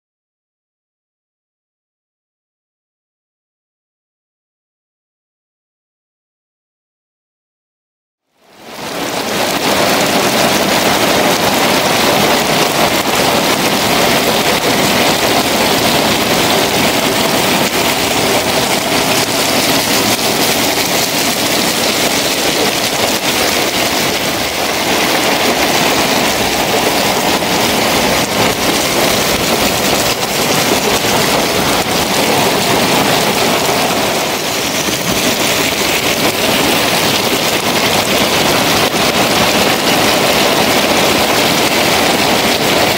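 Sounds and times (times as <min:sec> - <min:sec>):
heavy rain on wet concrete: 0:08.2 - 0:42.9.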